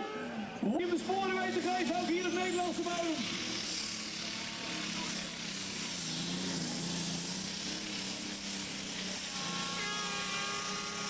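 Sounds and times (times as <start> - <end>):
steady whining tones: 0.0 - 11.0
vehicle engine running: 0.0 - 11.0.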